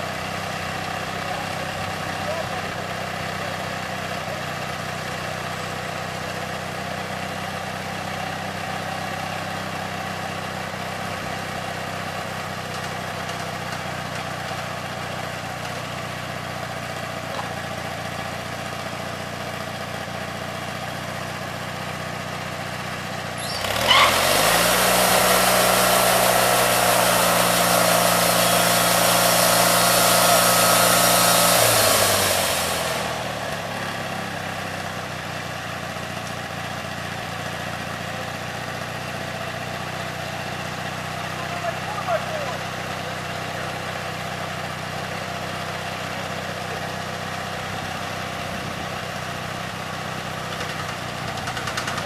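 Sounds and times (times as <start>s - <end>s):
engine idling and revving: 0.0s - 52.0s.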